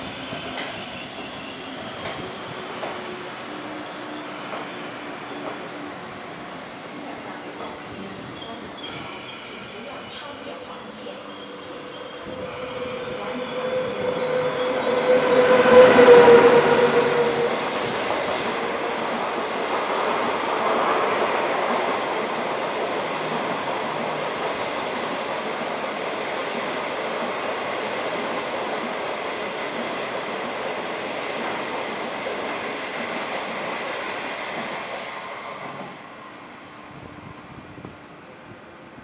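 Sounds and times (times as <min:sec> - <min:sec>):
train coaches rushing past: 0:00.0 - 0:38.9.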